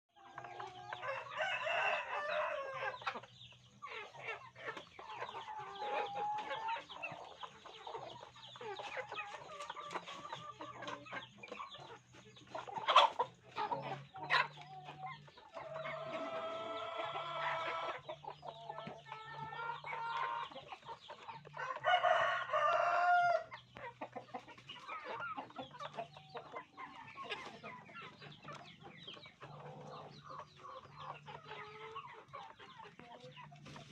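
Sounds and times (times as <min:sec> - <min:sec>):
hens clucking: 0:00.1 - 0:33.9.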